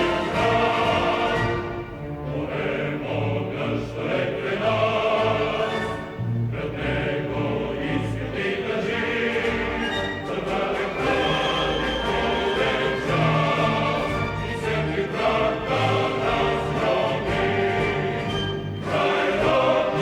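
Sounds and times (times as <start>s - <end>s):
choir singing with orchestra: 0.0s - 20.0s.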